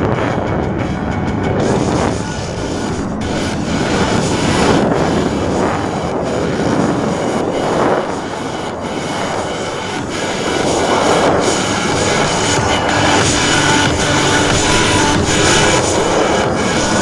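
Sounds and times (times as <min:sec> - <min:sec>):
propeller airplane engine drone: 0:00.0 - 0:17.0.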